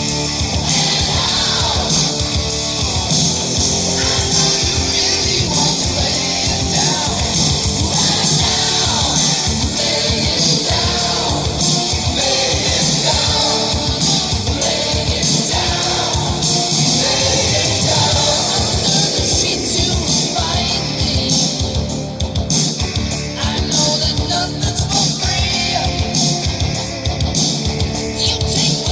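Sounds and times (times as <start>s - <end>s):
rock song through speakers: 0.0s - 28.9s.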